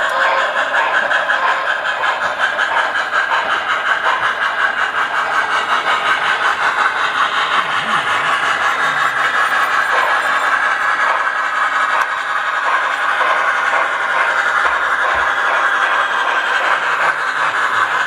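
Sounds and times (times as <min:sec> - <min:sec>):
model train wheels clattering: 0:00.0 - 0:18.0.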